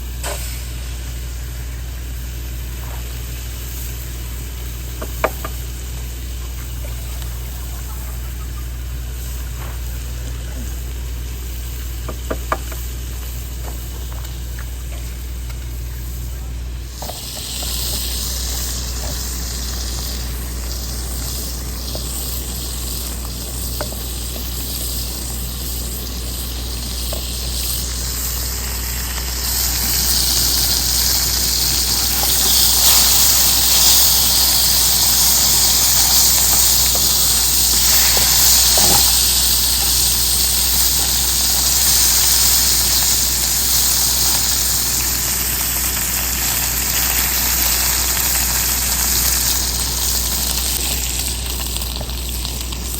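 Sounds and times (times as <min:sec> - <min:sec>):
bacon sizzling in a frying pan: 0:00.0 - 0:52.9.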